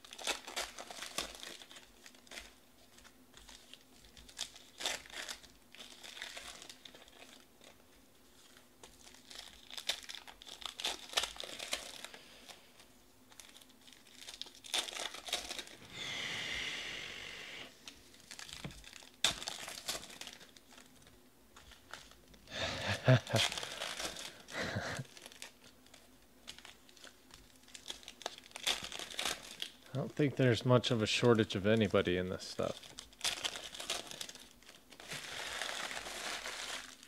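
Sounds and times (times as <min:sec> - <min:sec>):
foil wrappers crackling and tearing: 0:00.0 - 0:15.8, 0:17.8 - 0:37.0.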